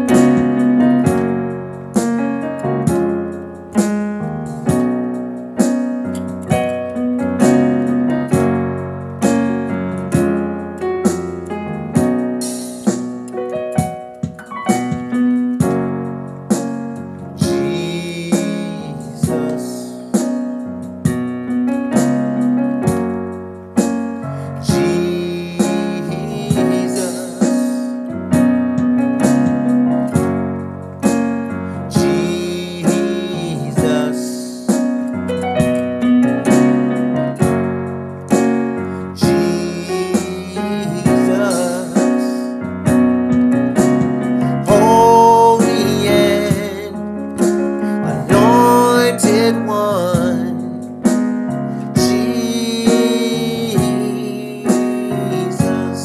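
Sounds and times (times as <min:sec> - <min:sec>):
piano chords ringing: 0:00.0 - 0:56.0.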